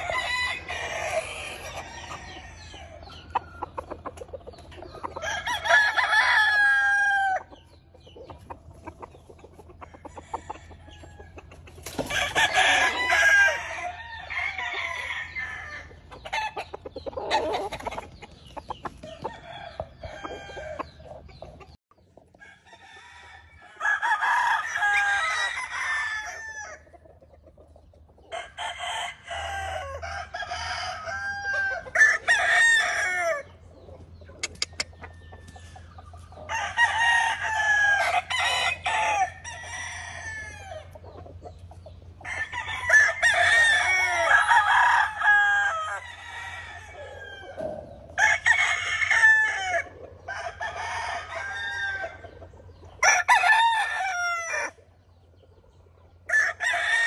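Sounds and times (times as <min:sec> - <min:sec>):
roosters crowing: 0:00.0 - 0:21.7, 0:22.3 - 0:27.0, 0:28.2 - 0:55.0, 0:56.1 - 0:57.0
chickens clucking: 0:00.0 - 0:57.0.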